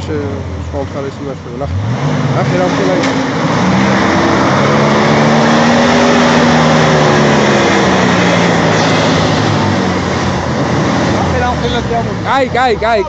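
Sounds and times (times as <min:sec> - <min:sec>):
engine working hard under load: 0:00.0 - 0:13.0.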